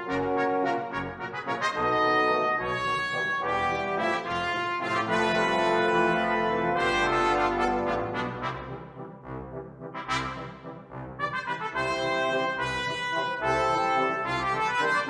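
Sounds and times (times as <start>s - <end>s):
brass ensemble playing sustained chords: 0.0s - 15.0s.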